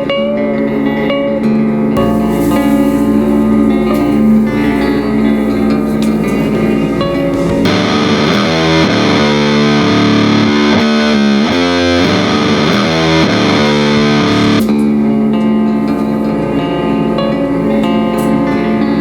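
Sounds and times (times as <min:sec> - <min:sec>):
clean guitar part: 0:00.0 - 0:19.0
distorted electric guitar: 0:00.0 - 0:19.0.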